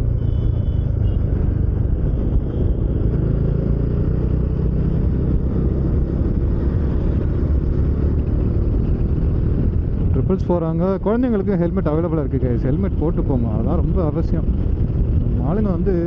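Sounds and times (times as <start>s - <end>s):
motorcycle engine: 0.0s - 16.0s
road noise: 0.0s - 16.0s.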